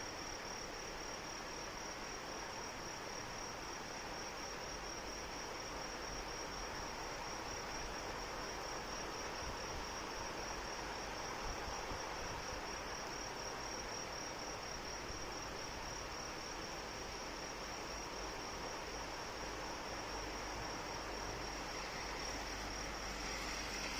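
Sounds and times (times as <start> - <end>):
crickets chirping: 0.0 - 23.9.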